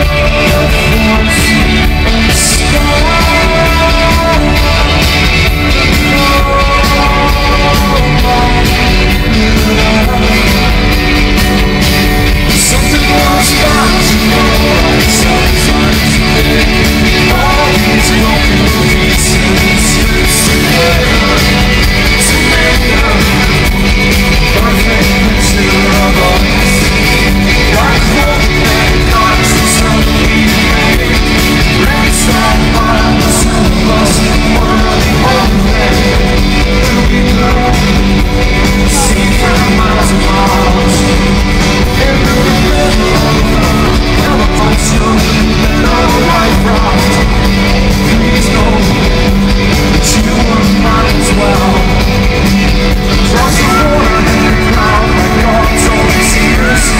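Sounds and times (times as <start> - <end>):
rock band playing live: 0.0 - 56.9.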